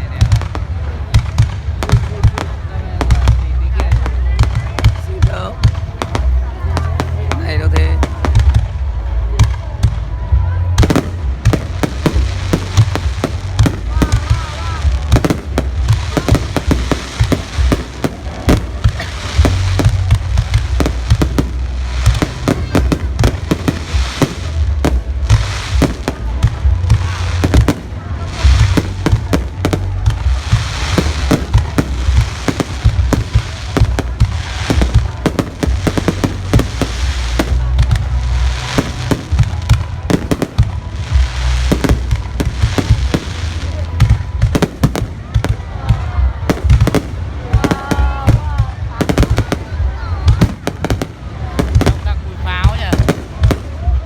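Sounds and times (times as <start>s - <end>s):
fireworks bangs and crackles: 0.0s - 54.0s
low rumble: 0.0s - 54.0s.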